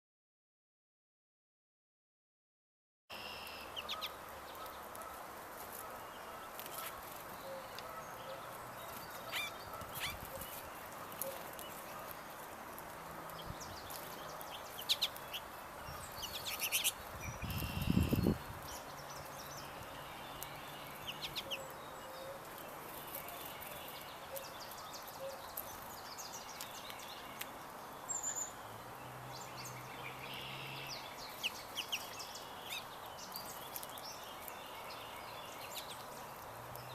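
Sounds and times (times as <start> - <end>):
birds calling and chirping: 3.1 - 36.9.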